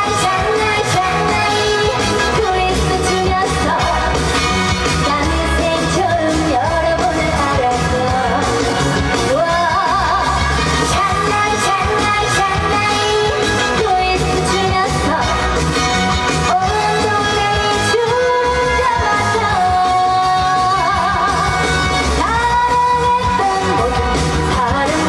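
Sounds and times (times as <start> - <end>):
upbeat music with steady beat: 0.0 - 25.0
woman singing with vibrato: 0.0 - 25.0.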